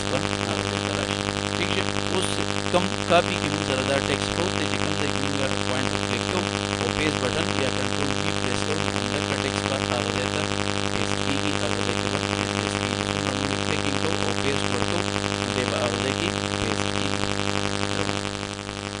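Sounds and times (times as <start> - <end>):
buzzy electrical hum: 0.0 - 19.0
constant hiss: 0.0 - 19.0.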